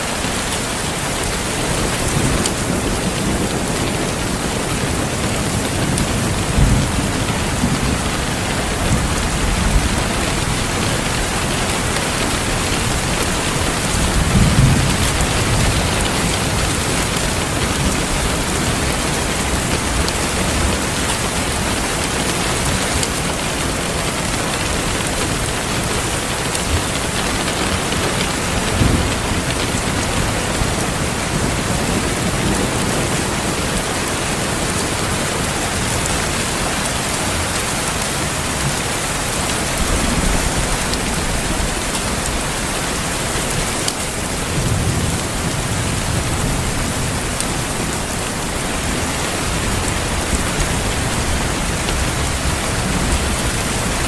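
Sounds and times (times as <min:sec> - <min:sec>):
heavy rain: 0:00.0 - 0:54.0
distant thunder rumbling: 0:01.3 - 0:54.0.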